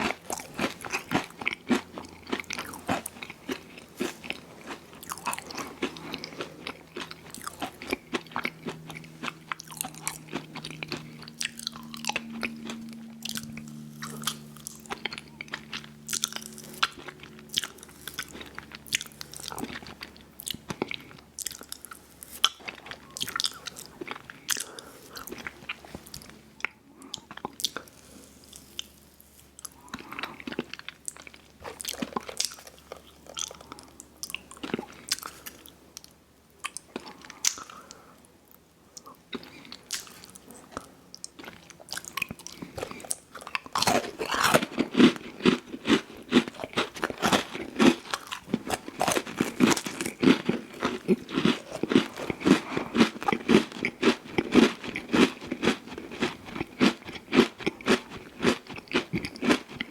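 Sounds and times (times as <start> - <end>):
chewing ice cream sandwiches: 0.0 - 59.9.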